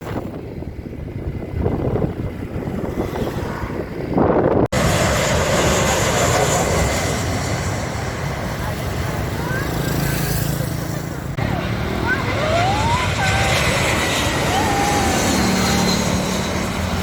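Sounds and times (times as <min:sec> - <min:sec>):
airliner engine rumble: 0:00.0 - 0:17.0.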